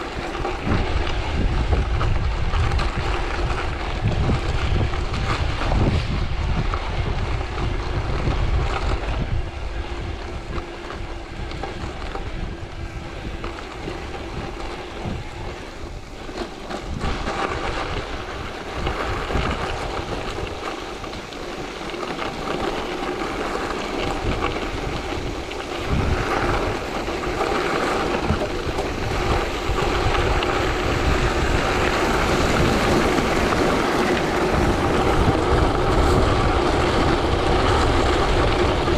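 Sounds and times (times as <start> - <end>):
bike tyres rolling on gravel: 0.0 - 38.9
wind buffeting microphone: 0.0 - 38.9.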